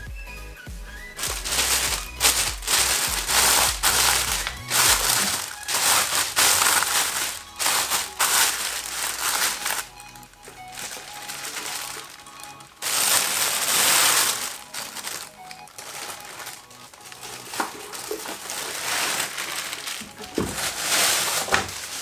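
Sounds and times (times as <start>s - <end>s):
electronic music: 0.0s - 18.0s
plastic bag crinkling: 1.2s - 22.0s.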